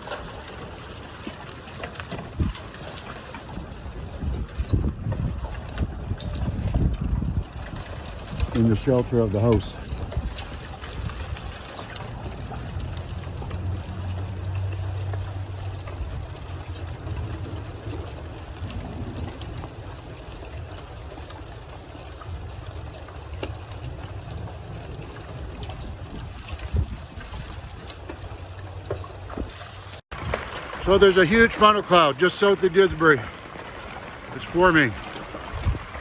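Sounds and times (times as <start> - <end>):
rain hissing: 0.0 - 36.0
wind buffeting microphone: 0.0 - 36.0.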